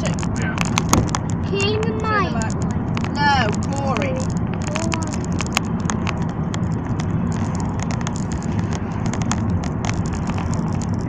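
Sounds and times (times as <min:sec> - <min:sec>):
car road rumble: 0:00.0 - 0:11.0
small clicks and ticks: 0:00.0 - 0:11.0.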